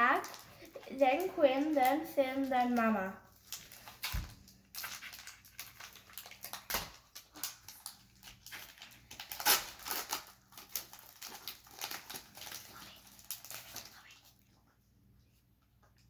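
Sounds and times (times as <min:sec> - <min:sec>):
foil wrapper crinkling: 0:00.0 - 0:14.5.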